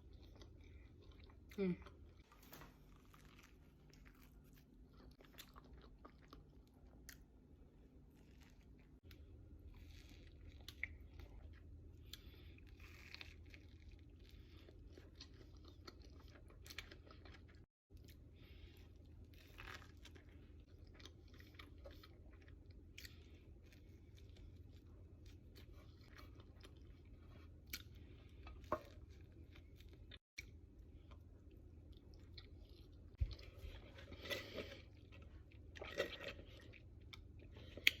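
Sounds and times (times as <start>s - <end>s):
chewing with soft crunching: 0.0s - 38.0s
low steady hum: 0.0s - 38.0s.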